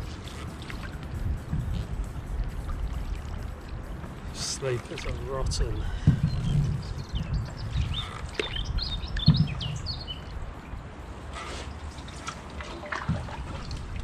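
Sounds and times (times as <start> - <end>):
small birds chirping: 0.0 - 12.4
water dripping from a paddle: 0.0 - 14.0
wind rumble on microphone: 0.0 - 14.0.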